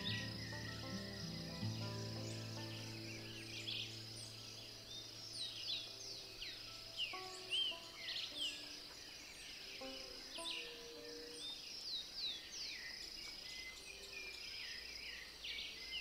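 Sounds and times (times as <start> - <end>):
high-pitched insect hum: 0.0 - 14.1
birds chirping: 0.0 - 16.0.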